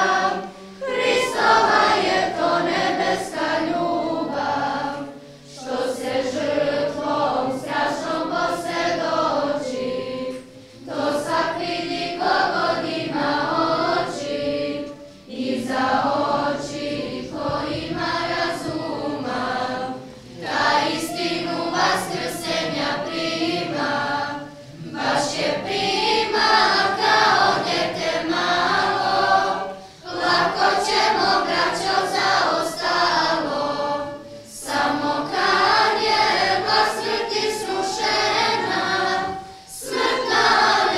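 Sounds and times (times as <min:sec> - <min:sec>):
church choir singing a hymn: 0:00.0 - 0:40.9.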